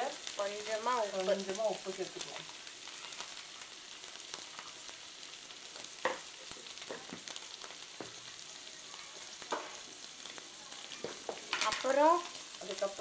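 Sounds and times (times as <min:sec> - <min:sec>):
oil crackling and popping: 0:00.0 - 0:13.0
potatoes sizzling in hot oil: 0:00.0 - 0:13.0.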